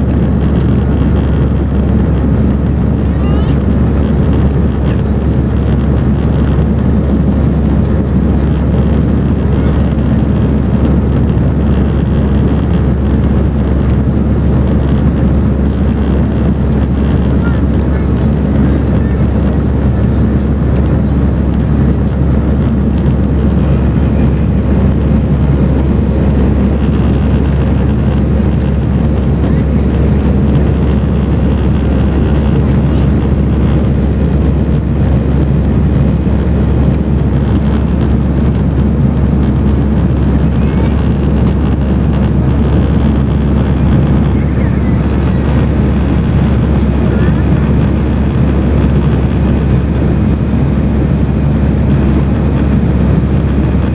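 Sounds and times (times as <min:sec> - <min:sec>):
airplane cabin roar: 0:00.0 - 0:53.9.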